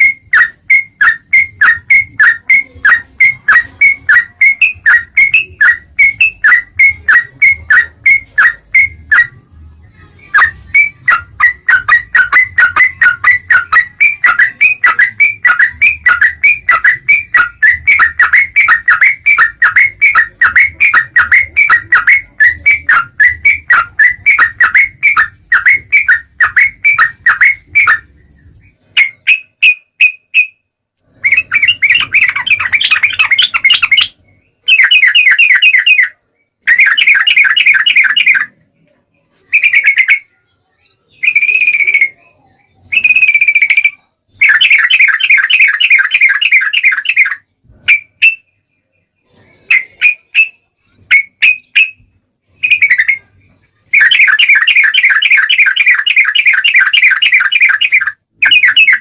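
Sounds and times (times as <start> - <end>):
bulbul chirping: 0.0 - 9.4, 10.2 - 38.6, 42.8 - 48.7, 49.7 - 59.0.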